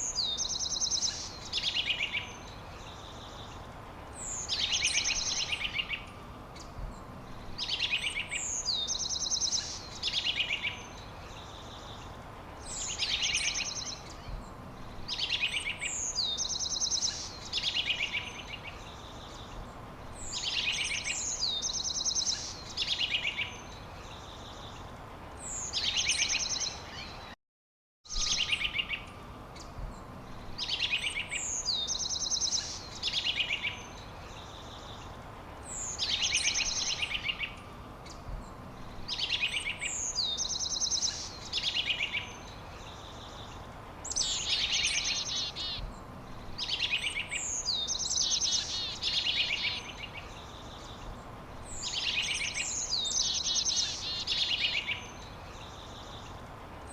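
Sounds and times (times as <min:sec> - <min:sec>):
songbird singing: 0:00.0 - 0:27.4, 0:28.1 - 0:56.9.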